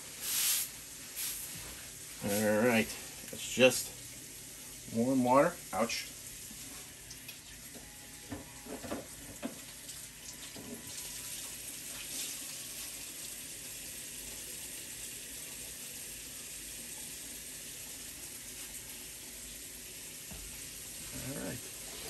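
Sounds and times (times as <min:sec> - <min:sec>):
water sizzling on hot griddle: 0:00.0 - 0:22.0.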